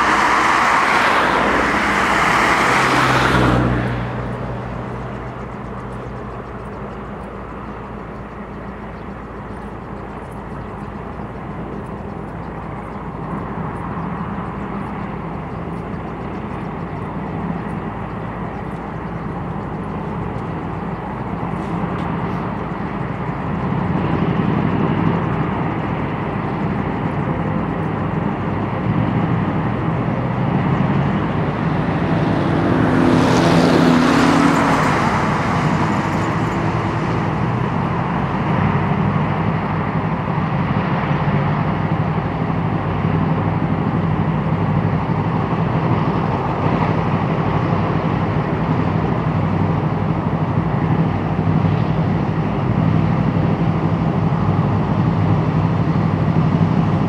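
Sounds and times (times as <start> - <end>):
armoured vehicle engines droning: 0.0 - 57.0.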